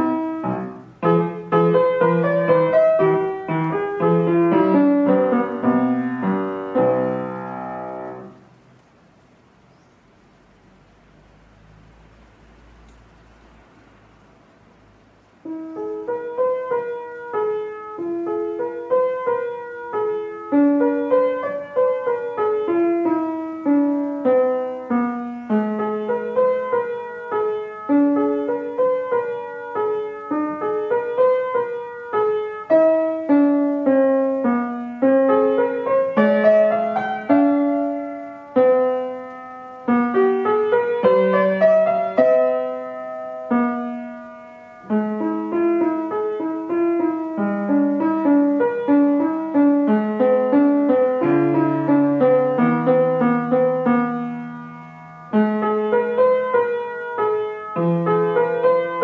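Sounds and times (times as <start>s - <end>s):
upright piano piece: 0.0s - 59.0s.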